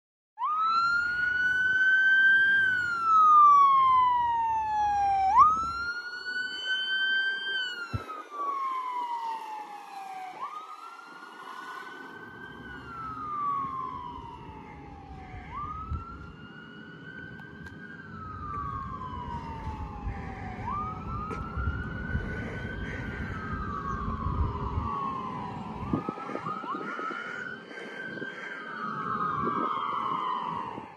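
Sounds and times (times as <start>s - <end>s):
fire engine siren wailing: 0.4s - 30.9s.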